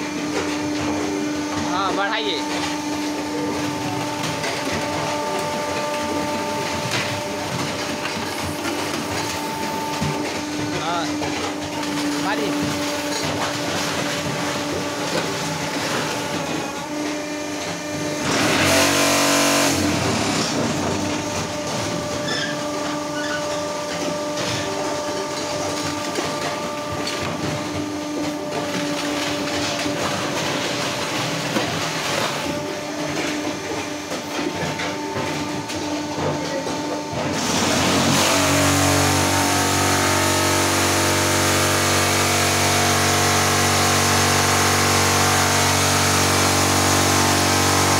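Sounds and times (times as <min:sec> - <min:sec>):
machine buzzing: 0:00.0 - 0:47.9
motor hum: 0:00.0 - 0:47.9.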